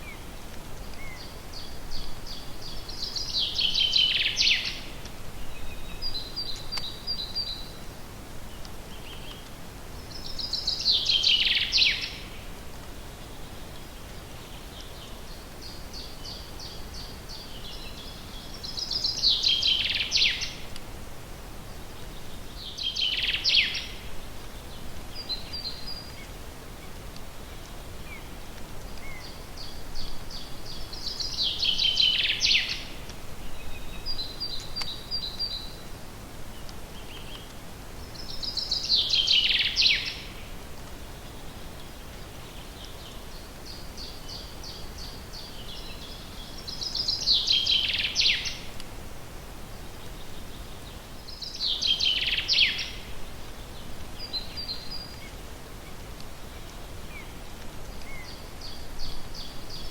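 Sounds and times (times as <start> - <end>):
faint background hiss: 0.0 - 59.9
songbird singing: 0.0 - 59.9.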